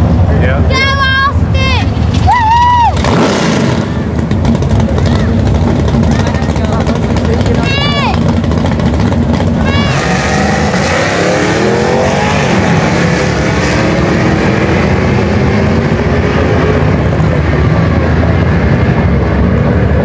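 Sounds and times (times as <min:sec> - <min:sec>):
racing engines accelerating: 0:00.0 - 0:20.0.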